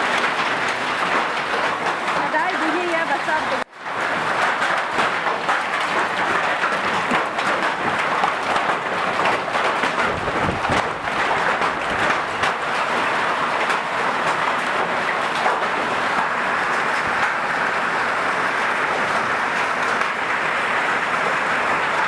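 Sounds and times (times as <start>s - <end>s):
hail and heavy rain pelting: 0.0s - 22.0s.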